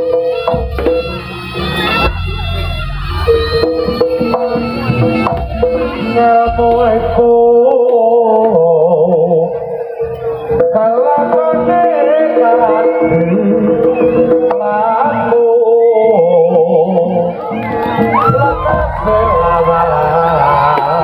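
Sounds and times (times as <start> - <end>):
hand-drum beats: 0.0 - 15.5, 16.4 - 21.0.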